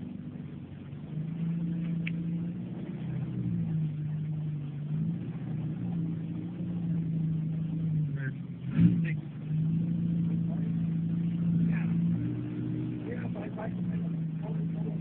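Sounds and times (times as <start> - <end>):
suv engine running: 0.0 - 15.0.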